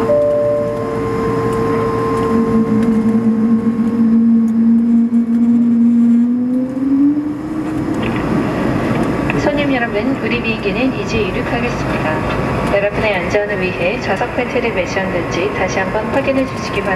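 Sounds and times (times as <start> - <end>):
jet engines whining in cabin: 0.0 - 16.9.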